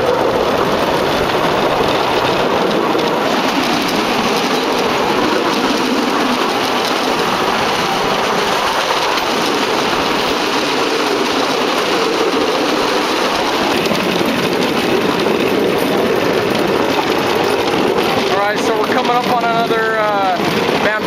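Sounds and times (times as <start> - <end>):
small engine running: 0.0 - 21.0
steel wheels clattering on track: 0.0 - 21.0.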